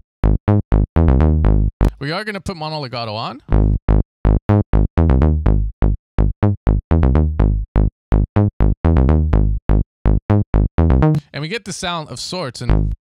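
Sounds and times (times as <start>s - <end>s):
plucky synth bassline: 0.0s - 11.3s, 12.7s - 13.0s.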